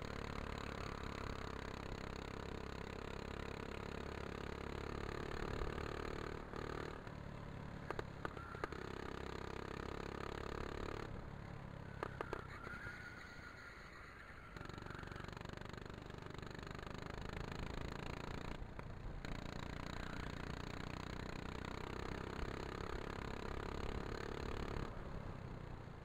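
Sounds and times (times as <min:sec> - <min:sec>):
go-kart engine: 0:00.0 - 0:26.0.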